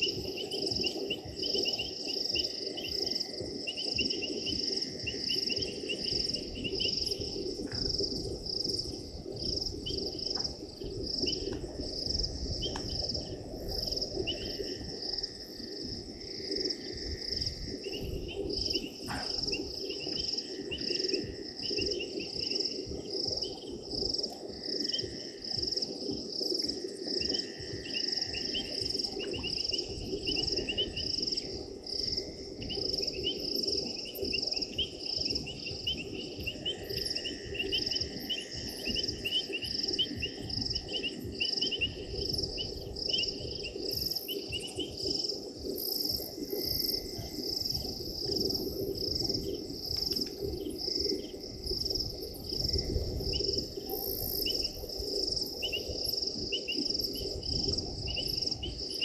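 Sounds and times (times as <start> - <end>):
crickets chirping: 0.0 - 59.0
insect trilling calls: 0.0 - 59.0.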